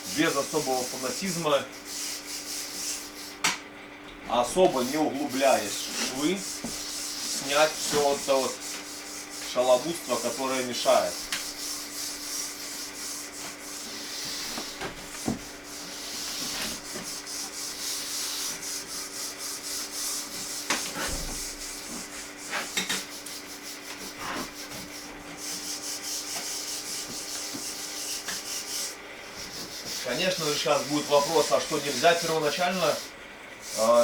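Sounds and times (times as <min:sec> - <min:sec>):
wire brush scrubbing brick: 0:00.0 - 0:03.4, 0:04.3 - 0:34.0.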